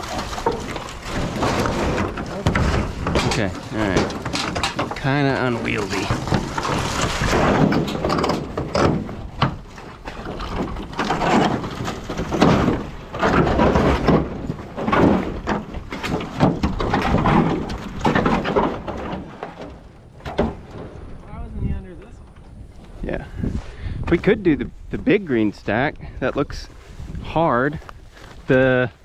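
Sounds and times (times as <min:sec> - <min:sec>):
roofing tin rumbling and scraping: 0:00.0 - 0:29.0.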